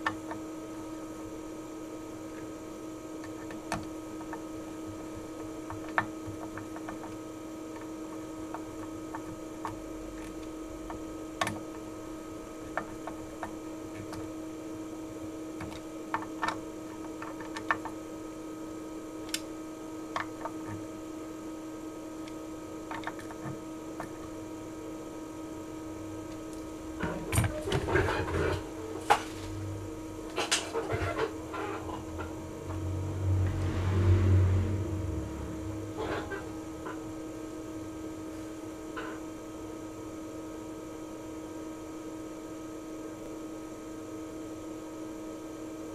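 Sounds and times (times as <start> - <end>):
electrical hum: 0.0 - 45.9.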